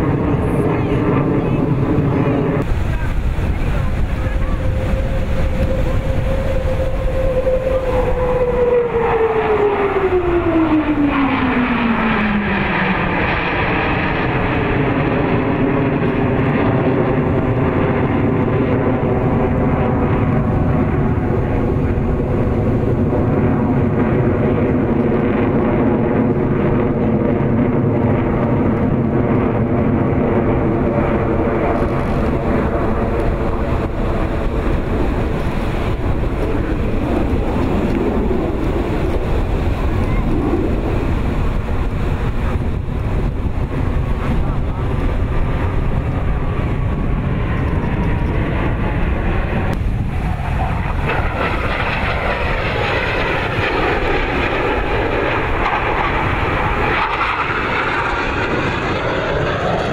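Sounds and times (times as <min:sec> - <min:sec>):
jet flying overhead: 0:00.0 - 0:59.9.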